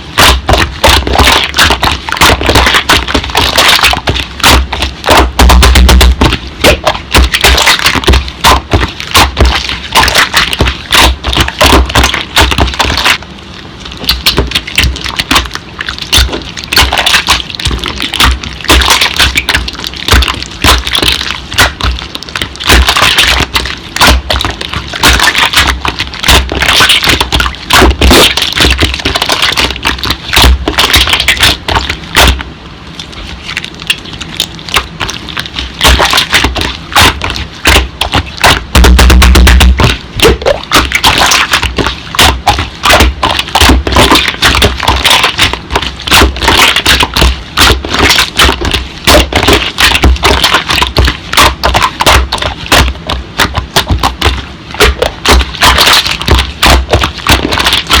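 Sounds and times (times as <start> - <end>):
slime crackling and popping: 0.0 - 13.2, 13.8 - 58.0.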